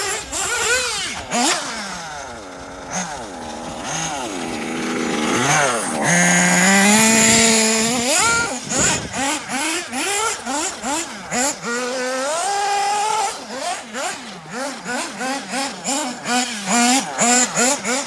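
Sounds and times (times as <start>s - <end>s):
small engine revving hard: 0.0s - 18.0s.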